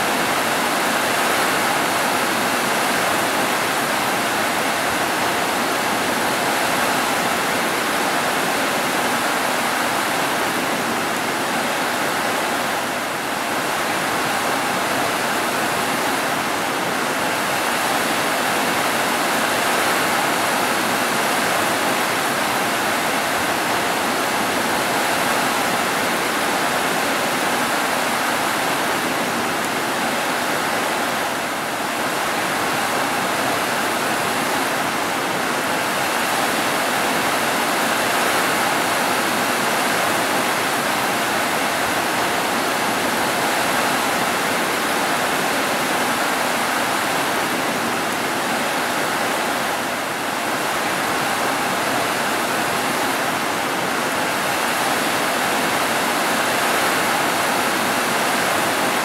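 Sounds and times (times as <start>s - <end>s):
heavy rain on roofs: 0.0s - 59.0s.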